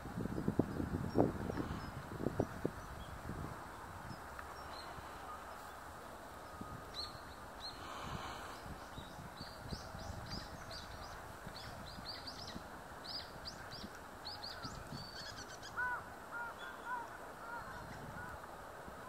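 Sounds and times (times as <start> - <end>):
outdoor background: 0.0 - 19.0.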